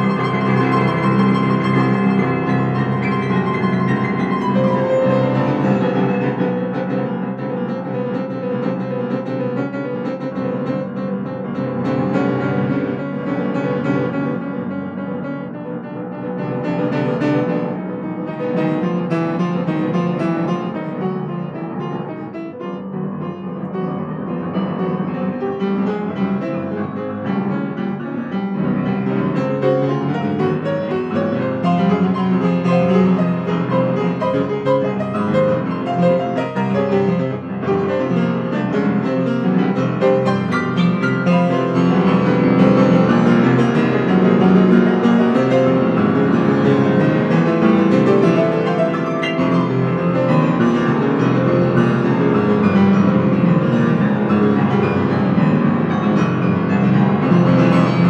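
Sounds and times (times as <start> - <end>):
grand piano improvisation: 0.0 - 58.0.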